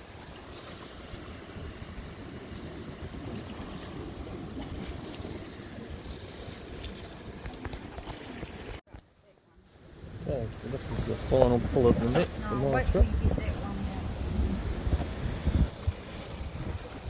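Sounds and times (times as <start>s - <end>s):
wind rumbling on microphone: 0.0s - 8.8s, 9.8s - 17.0s
river water washing against rocks: 0.0s - 9.0s, 9.8s - 17.0s.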